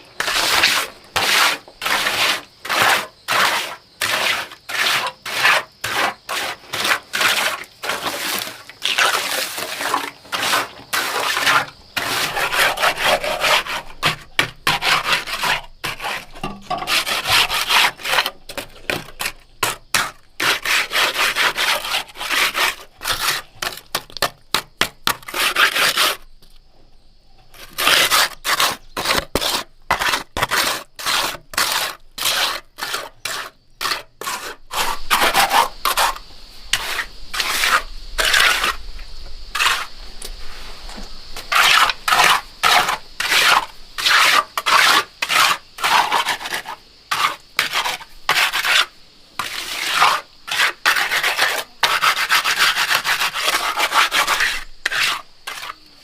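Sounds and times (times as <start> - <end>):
hand tool scraping hard surface: 0.0 - 26.2, 27.5 - 38.8, 39.5 - 39.9, 40.9 - 56.0.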